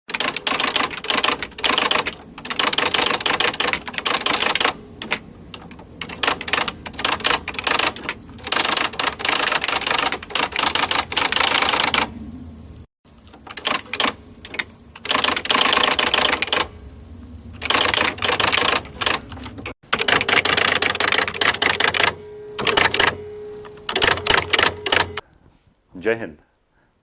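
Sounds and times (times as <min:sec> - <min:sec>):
rapid typing keystrokes: 0:00.1 - 0:12.1, 0:13.4 - 0:16.7, 0:17.6 - 0:19.3, 0:19.9 - 0:23.2, 0:23.9 - 0:25.2.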